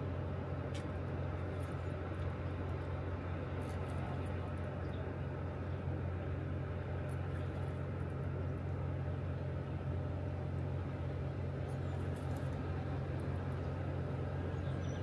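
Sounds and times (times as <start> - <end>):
river water rumbling below dam: 0.0 - 15.0.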